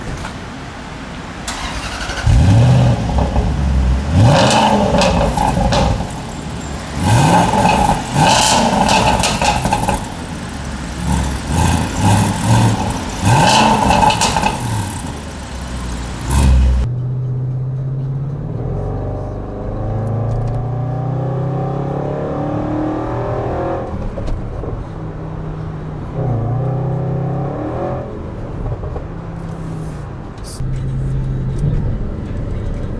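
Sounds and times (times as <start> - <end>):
exhaust crackles: 1.4 - 32.9
car engine revving: 1.5 - 32.9.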